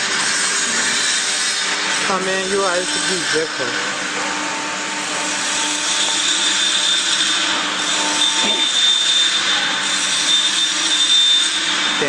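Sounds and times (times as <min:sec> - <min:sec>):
high motor whine: 0:00.0 - 0:12.0
machinery motor whirring: 0:00.0 - 0:12.0.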